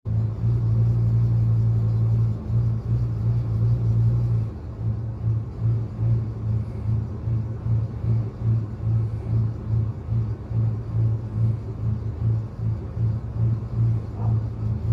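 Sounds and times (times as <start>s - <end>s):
truck engine idling and surging: 0.0s - 14.9s.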